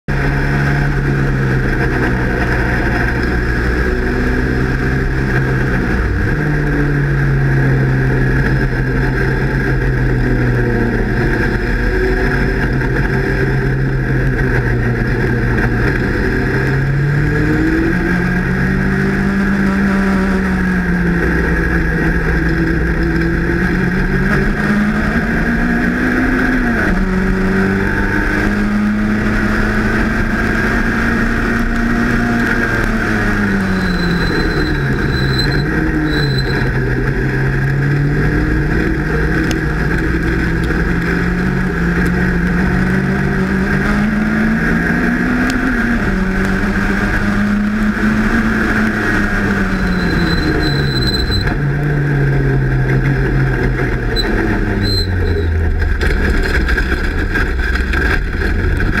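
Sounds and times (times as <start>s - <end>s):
race car engine under load: 0.1s - 59.0s.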